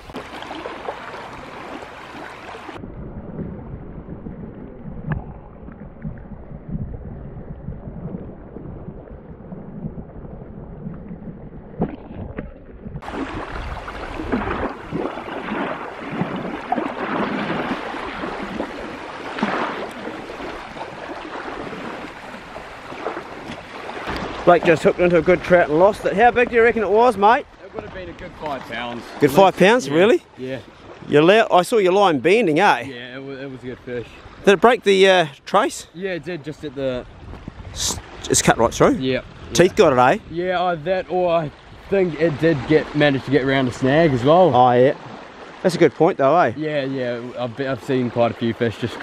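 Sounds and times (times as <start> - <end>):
wind buffeting microphone: 0.0 - 31.5, 33.3 - 34.6, 36.1 - 45.5.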